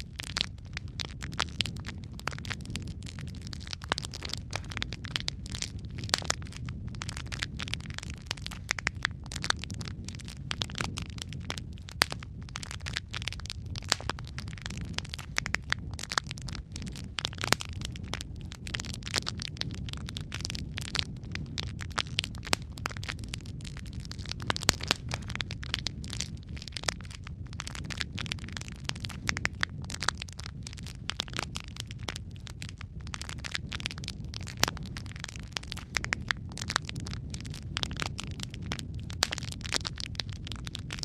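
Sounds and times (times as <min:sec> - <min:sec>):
logs crackling and popping: 0:00.0 - 0:41.0
low rumble of flames: 0:00.0 - 0:41.0.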